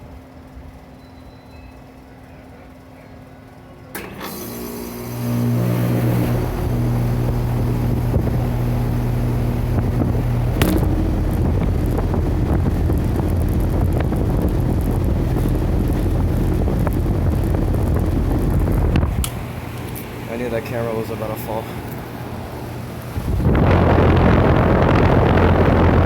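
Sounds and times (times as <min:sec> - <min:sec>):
loud electrical hum: 0:00.0 - 0:26.0
fan air rushing: 0:01.8 - 0:26.0.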